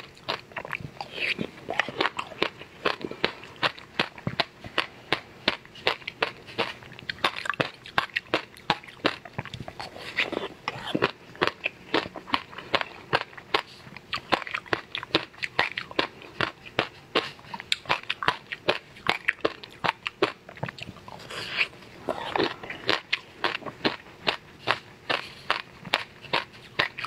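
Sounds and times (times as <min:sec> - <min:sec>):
chewing frozen ice pop: 0:00.0 - 0:27.0.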